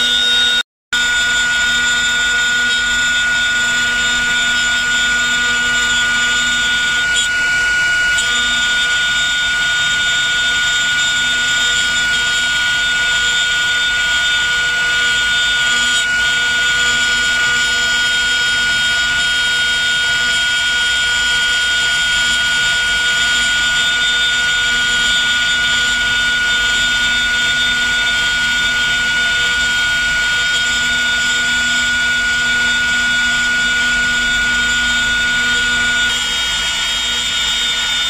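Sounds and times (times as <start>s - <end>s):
bit carving wood: 0.0s - 38.0s
router spindle whining: 0.0s - 38.0s.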